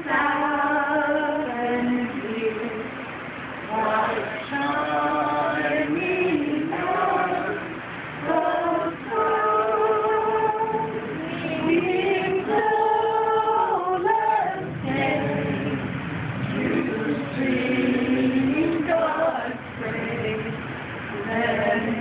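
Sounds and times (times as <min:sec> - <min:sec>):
group singing unaccompanied: 0:00.0 - 0:22.0.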